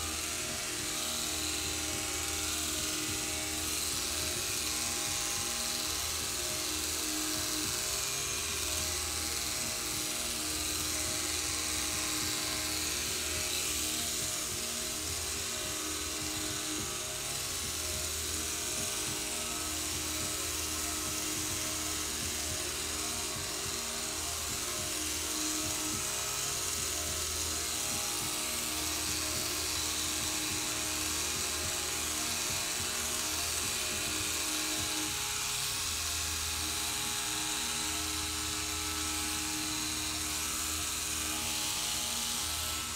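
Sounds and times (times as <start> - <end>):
electric hair clippers buzzing: 0.0 - 42.9
music playing: 0.0 - 42.9.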